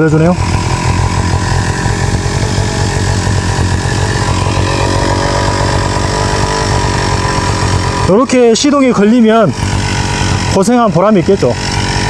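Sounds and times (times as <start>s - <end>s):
two-stroke brush cutter engine running: 0.0s - 12.0s.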